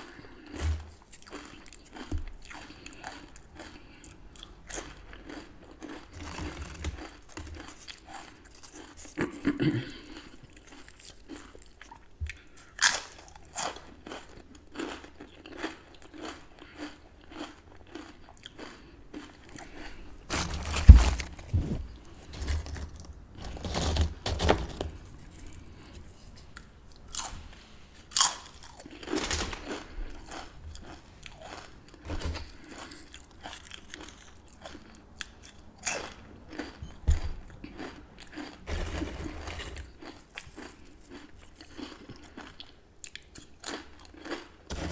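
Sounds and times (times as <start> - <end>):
chips crunching: 0.1 - 9.2, 12.8 - 27.4, 28.1 - 36.8, 37.6 - 44.9.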